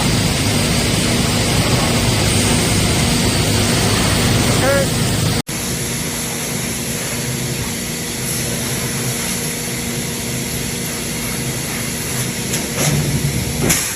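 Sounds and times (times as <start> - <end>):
hydraulic power unit humming: 0.0 - 13.9.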